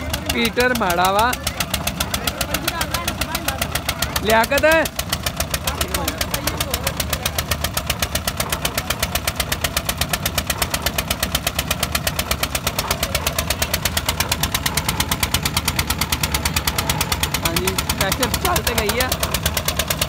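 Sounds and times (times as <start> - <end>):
diesel engine chugging: 0.0 - 20.0.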